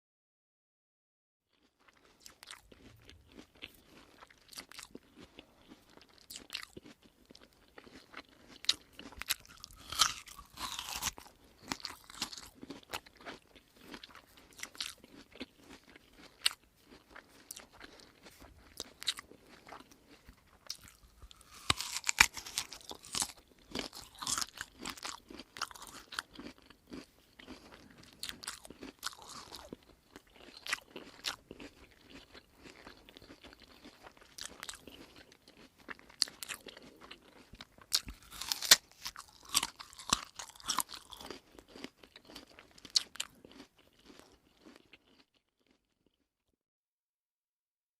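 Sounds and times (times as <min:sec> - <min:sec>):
person chewing crunchy food: 0:01.5 - 0:46.2.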